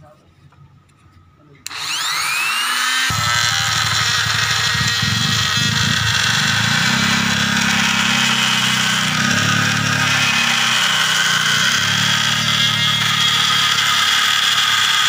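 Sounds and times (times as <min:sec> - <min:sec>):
rotary grinder cutting plastic: 0:01.7 - 0:15.0.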